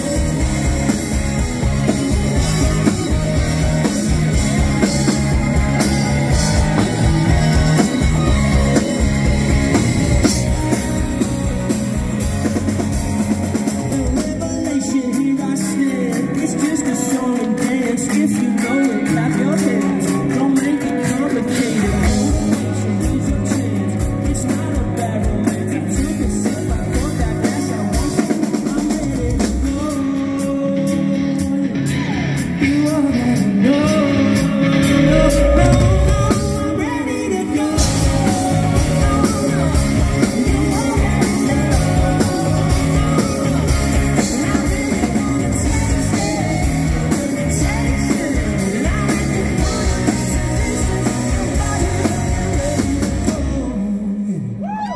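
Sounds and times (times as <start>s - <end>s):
bass guitar: 0.0s - 54.9s
drum kit: 0.0s - 54.9s
electric guitars: 0.0s - 54.9s
man singing lead: 0.0s - 54.9s.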